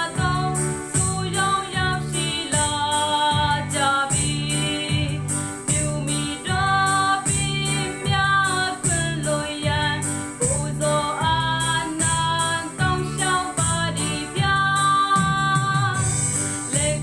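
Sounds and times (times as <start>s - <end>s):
backing track with steady beat: 0.0s - 17.0s
woman singing a hymn: 0.0s - 17.0s.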